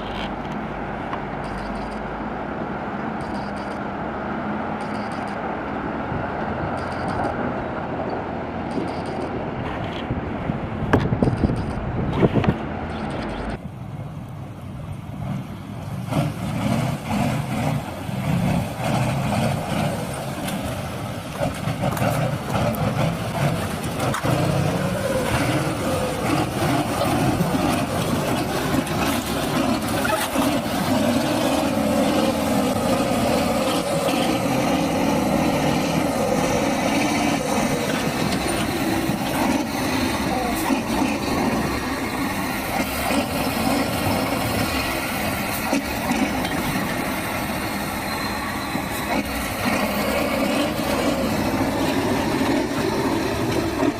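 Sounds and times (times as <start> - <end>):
heavy vehicle engine running: 0.0 - 53.9.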